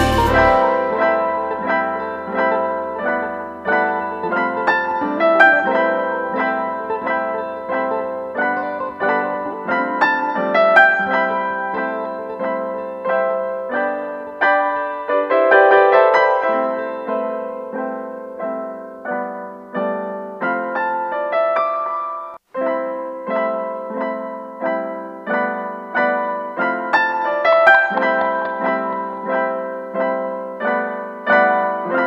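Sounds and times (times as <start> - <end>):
slow piano music: 0.0 - 32.0.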